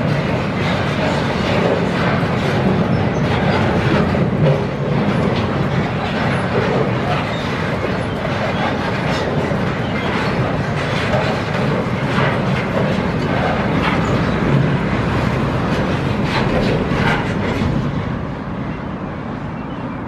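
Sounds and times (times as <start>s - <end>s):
train wheels rumbling on rail: 0.0s - 20.0s
wheels clacking over rail joints: 0.0s - 20.0s.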